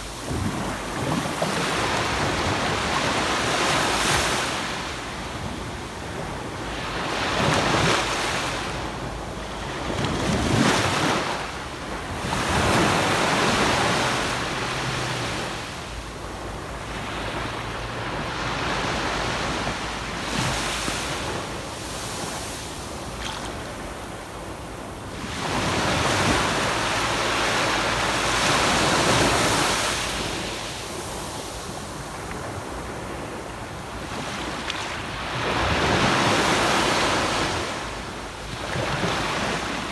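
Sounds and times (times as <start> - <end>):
waves breaking on beach: 0.0 - 39.9
wind rumble on microphone: 0.0 - 39.9.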